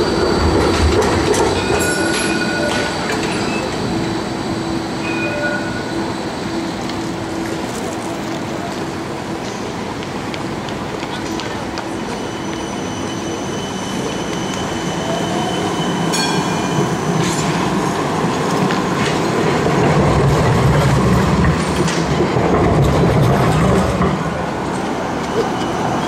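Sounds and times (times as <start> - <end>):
tram high squeal: 0.0 - 9.9, 11.5 - 26.0
tram high whine: 0.0 - 26.0
tram wheels rumbling on track: 0.0 - 26.0.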